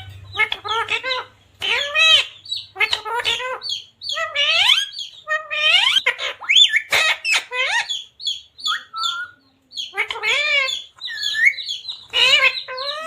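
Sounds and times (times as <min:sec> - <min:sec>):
parrot chirping and squawking: 0:00.0 - 0:13.0.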